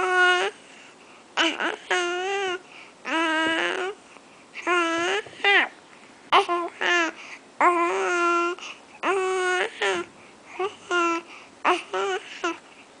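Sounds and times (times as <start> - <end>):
baby cooing and babbling: 0.0 - 0.6, 1.4 - 4.0, 4.6 - 12.6.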